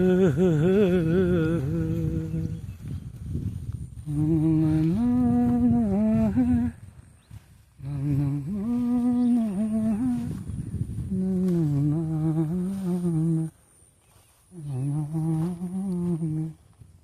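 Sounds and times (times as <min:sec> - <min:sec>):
person humming a slow tune: 0:00.0 - 0:07.0, 0:07.6 - 0:13.6, 0:14.2 - 0:16.9.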